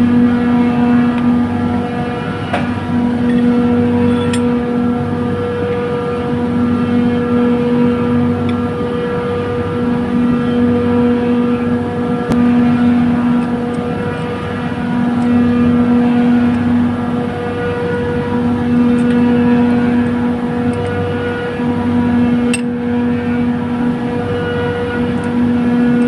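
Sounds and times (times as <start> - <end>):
compressor humming and whining: 0.0 - 26.0
low droning tone: 0.0 - 26.0.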